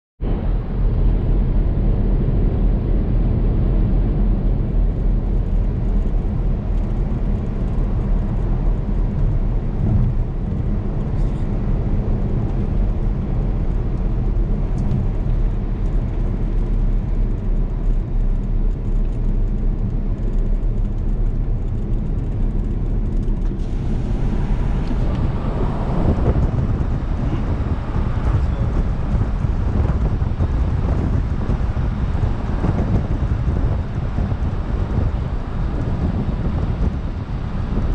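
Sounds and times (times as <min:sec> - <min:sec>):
car engine and exhaust drone: 0:00.2 - 0:37.9
rush of noise: 0:00.2 - 0:37.9.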